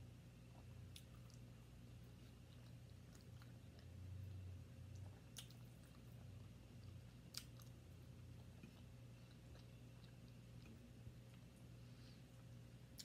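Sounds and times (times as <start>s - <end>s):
quiet chewing: 0.4s - 13.0s.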